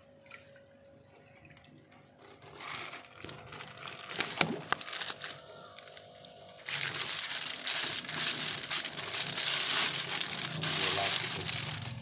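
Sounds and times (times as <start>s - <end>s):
plastic bag crinkling: 2.2s - 12.0s.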